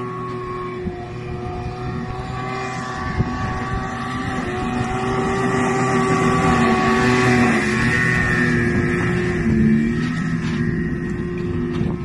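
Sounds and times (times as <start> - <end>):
snowmobile engine at high revs: 0.0 - 12.0.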